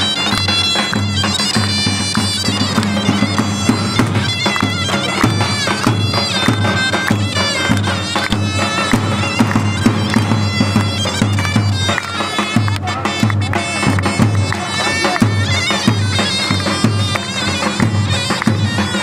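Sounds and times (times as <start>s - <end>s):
reedy shawm melody: 0.0s - 19.0s.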